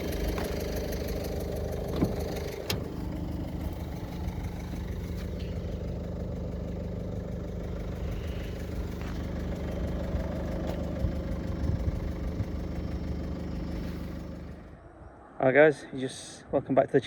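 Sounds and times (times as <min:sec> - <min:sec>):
vehicle engine idling: 0:00.0 - 0:14.9.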